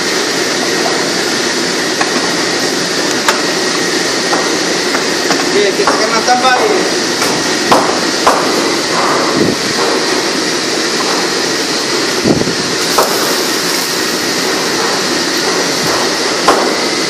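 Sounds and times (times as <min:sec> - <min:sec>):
gas stove burner roaring: 0:00.0 - 0:17.0.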